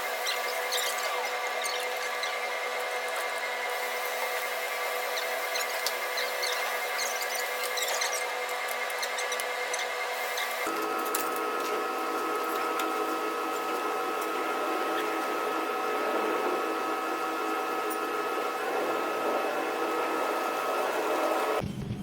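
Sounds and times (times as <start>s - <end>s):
small electric motor whining: 0.0s - 21.6s.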